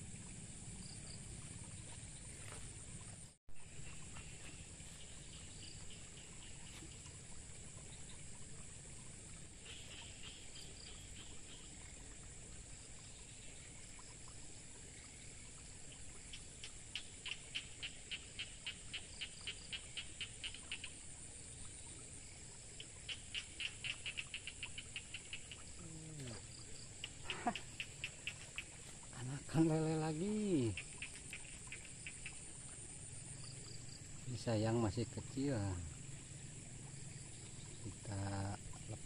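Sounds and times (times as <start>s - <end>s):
insect ticking calls: 0.0s - 39.0s
insects droning: 0.0s - 39.0s.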